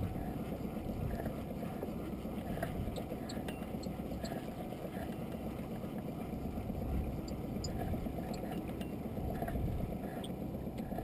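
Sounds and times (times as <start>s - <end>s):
wind and sea rumble: 0.0s - 11.0s.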